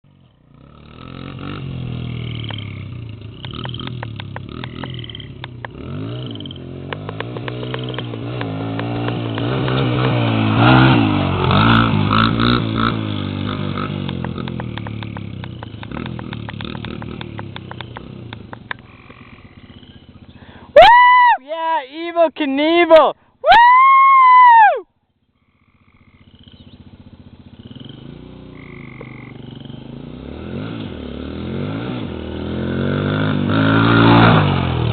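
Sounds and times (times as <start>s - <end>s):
dirt bike engine revving: 0.1s - 21.3s, 25.4s - 34.9s.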